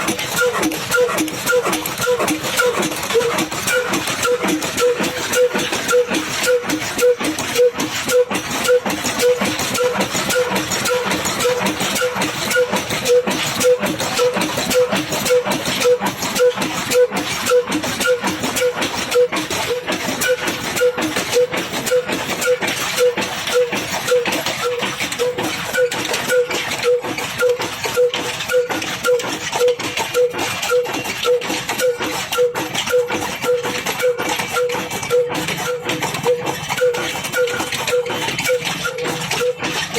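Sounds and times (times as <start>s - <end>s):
diesel engine running: 0.0s - 39.9s
mechanical clatter: 0.0s - 39.9s.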